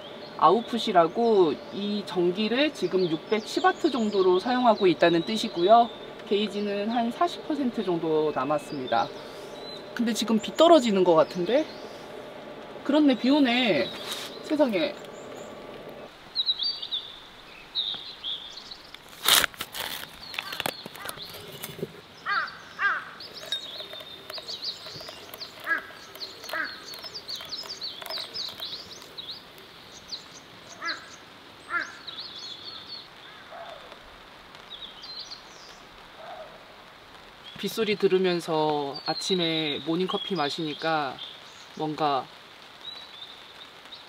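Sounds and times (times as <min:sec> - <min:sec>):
birds singing and calling: 0:00.0 - 0:34.0, 0:34.6 - 0:36.6, 0:37.4 - 0:44.0.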